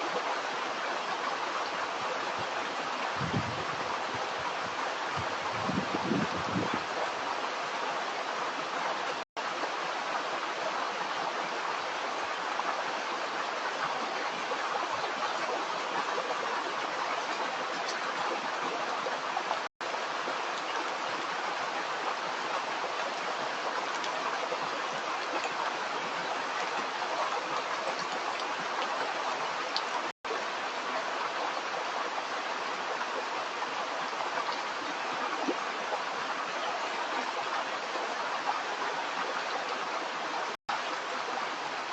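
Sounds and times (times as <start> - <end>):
stream water running: 0.0 - 41.9.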